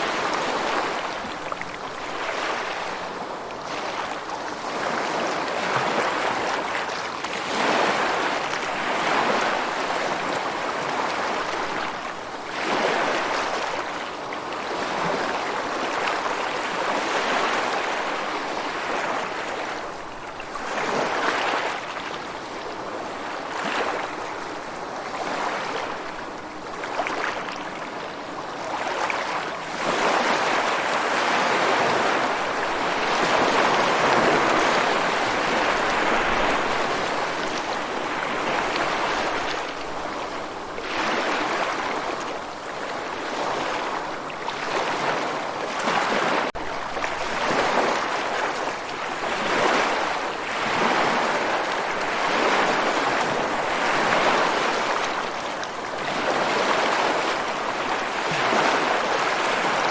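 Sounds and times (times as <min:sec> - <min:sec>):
ocean surf washing ashore: 0:00.0 - 0:59.9.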